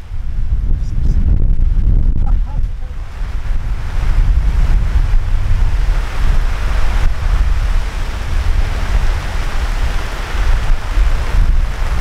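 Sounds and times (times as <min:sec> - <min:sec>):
heavy rain hiss: 0:00.0 - 0:12.0
storm wind gusting: 0:00.0 - 0:12.0
wind buffeting microphone: 0:00.0 - 0:12.0.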